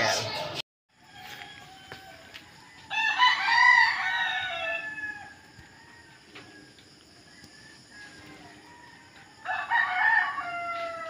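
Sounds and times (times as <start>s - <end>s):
rooster crowing: 0.9s - 11.0s.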